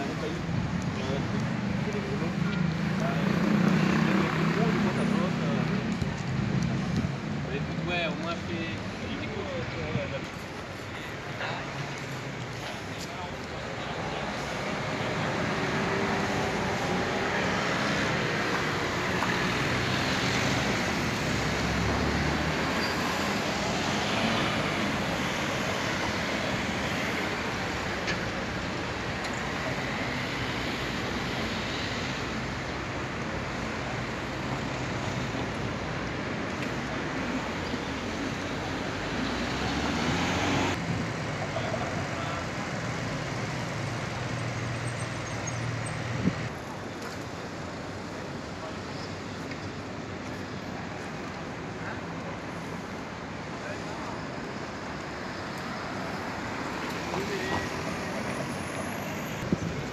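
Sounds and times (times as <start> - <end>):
cars and buses passing: 0.0 - 59.9.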